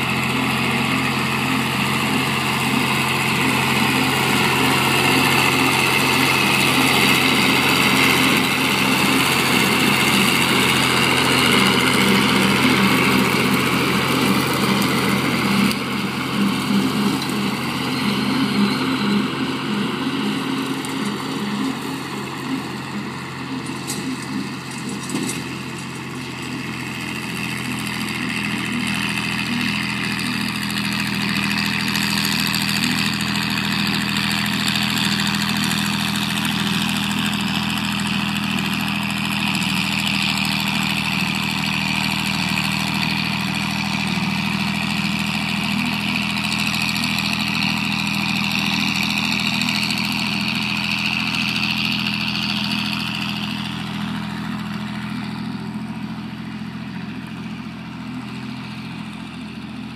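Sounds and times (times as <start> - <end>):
mower high hiss: 0.0 - 59.9
tractor engine drone: 0.0 - 59.9.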